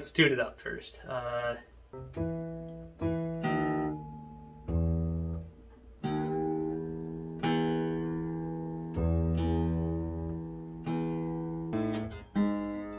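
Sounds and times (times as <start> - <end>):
acoustic guitar strings plucked: 2.0 - 12.9.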